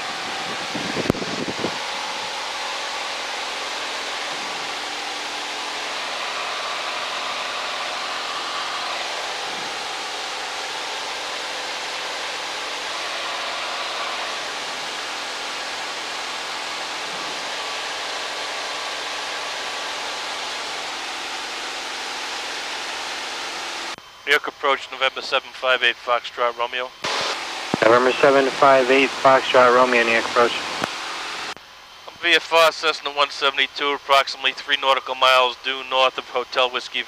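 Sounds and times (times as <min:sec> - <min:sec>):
airplane engine and propeller drone: 0:00.0 - 0:37.0
faint steady hum: 0:00.0 - 0:37.0.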